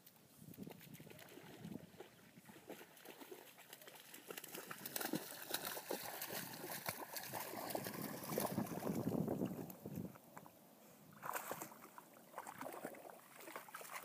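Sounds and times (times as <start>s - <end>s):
dog splashing through water: 0.6s - 9.8s, 11.2s - 14.0s.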